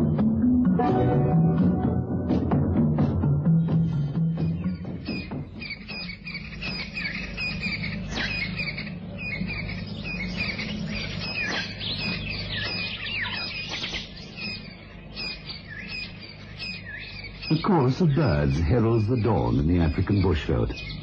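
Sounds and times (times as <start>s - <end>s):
steady low hum: 1.0s - 21.0s
birds chirping and whistling: 3.4s - 21.0s.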